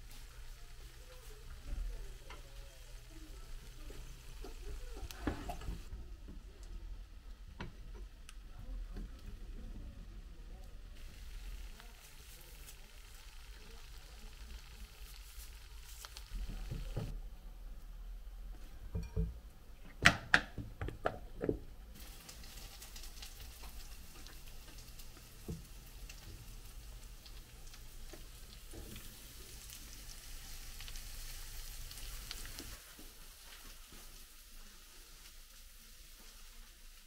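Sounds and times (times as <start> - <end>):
oil sizzling in a frying pan: 0.0 - 8.4, 10.9 - 17.2, 21.9 - 37.0.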